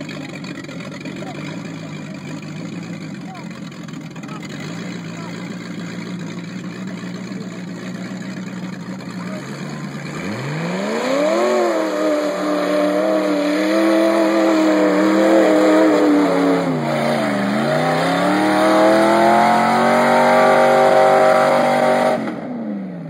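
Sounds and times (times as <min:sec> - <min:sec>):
engine revving at full throttle: 0:00.0 - 0:23.0.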